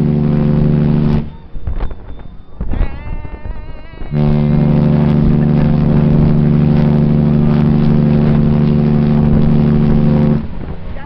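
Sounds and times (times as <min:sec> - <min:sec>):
ship's horn blast: 0:00.0 - 0:11.0.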